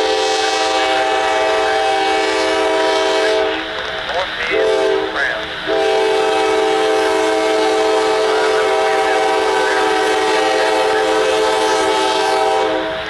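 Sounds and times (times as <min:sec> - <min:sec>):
locomotive air horn blast: 0:00.0 - 0:03.8, 0:04.5 - 0:13.0.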